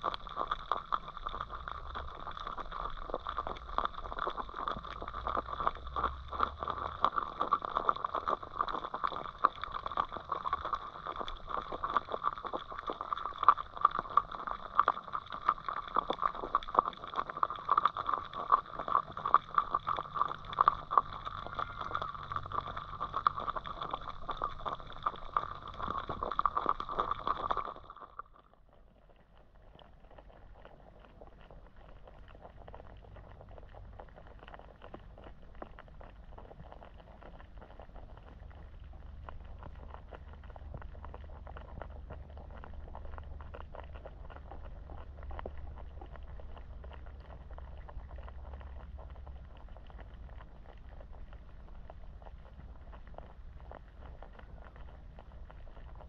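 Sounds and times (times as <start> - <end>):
underwater crackling clicks: 0.0 - 56.0.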